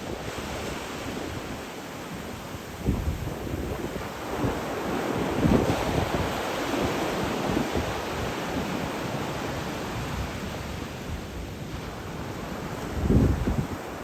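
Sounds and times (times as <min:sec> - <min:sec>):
sea waves washing on shore: 0:00.0 - 0:14.0
wind: 0:00.0 - 0:14.0.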